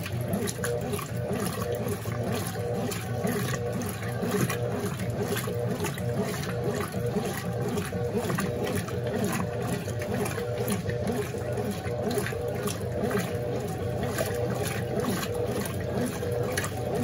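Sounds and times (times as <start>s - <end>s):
washing machine motor hum: 0.0s - 17.0s
water sloshing and splashing: 0.0s - 17.0s.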